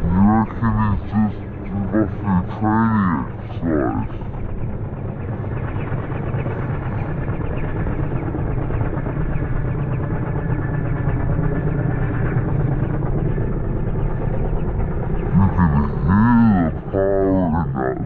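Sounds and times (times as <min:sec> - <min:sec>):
helicopter rotor and engine rumble: 0:00.0 - 0:18.0.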